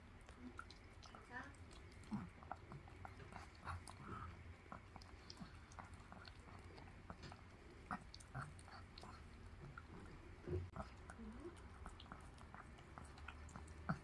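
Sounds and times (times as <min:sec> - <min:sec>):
puppy licking and chewing: 0:00.0 - 0:14.0.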